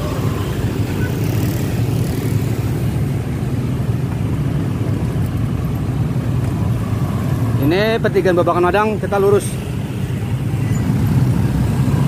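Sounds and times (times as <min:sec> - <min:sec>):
scooter and motorcycle traffic: 0:00.0 - 0:12.0.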